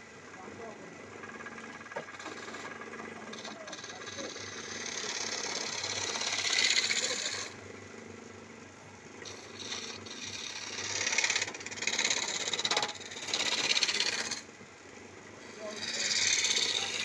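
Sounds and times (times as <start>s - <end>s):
chisel scraping spinning wood: 0.0s - 7.6s, 9.2s - 14.6s, 15.4s - 17.0s
wood lathe humming: 0.0s - 7.7s, 9.1s - 17.0s.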